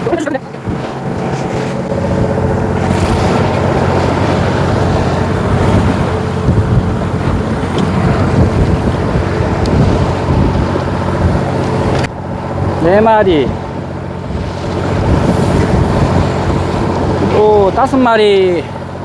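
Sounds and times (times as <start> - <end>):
boat engine running: 0.0 - 19.0
rough sea wash: 0.0 - 19.0
wind buffeting microphone: 0.0 - 19.0.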